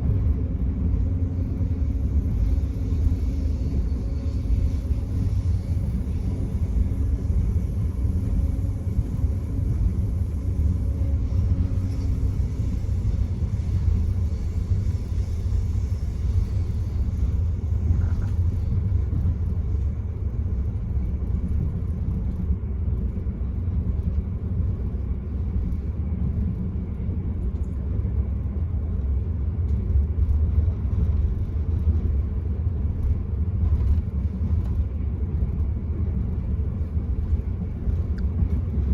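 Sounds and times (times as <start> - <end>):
train running inside carriage: 0.0 - 38.9.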